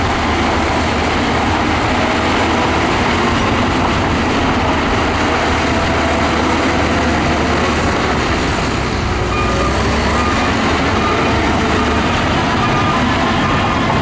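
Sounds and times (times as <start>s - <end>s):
bulldozer diesel engine rumble: 0.0s - 14.0s.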